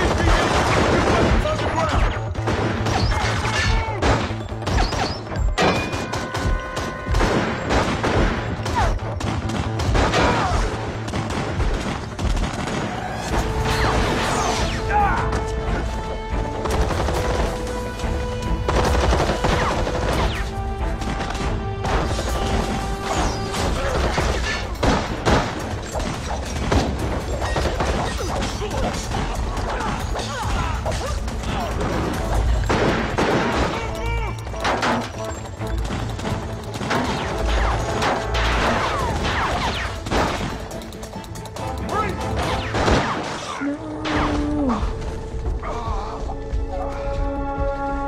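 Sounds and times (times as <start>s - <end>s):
gunfire bursts: 0.0s - 14.8s, 16.6s - 43.6s
dramatic music score: 0.0s - 48.0s.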